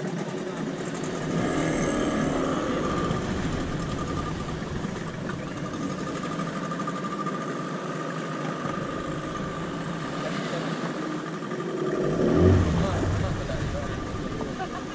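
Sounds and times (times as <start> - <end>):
boat engine humming: 0.0 - 14.9
thin steady whine: 0.0 - 14.9.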